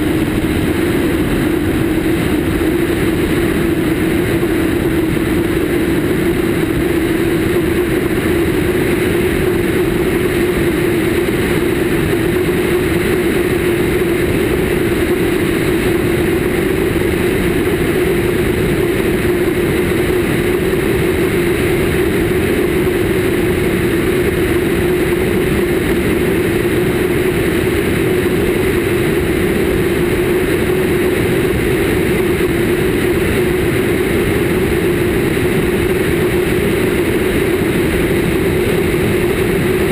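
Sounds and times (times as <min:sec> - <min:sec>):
airflow rushing over microphone: 0:00.0 - 0:39.9
propeller plane engine drone: 0:00.0 - 0:39.9.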